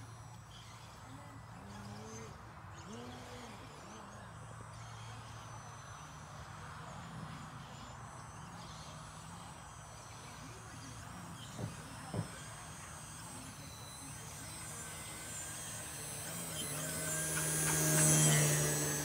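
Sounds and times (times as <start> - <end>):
distant model airplane engine drone: 0.0 - 19.0.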